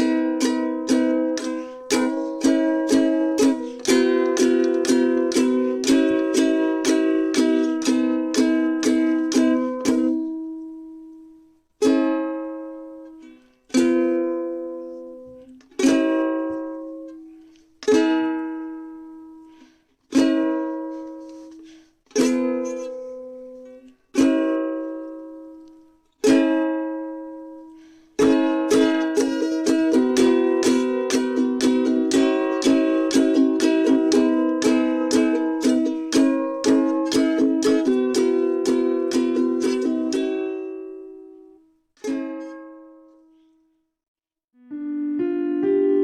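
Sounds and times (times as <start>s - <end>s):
plucked string instrument strumming: 0.0s - 43.2s, 44.6s - 46.0s.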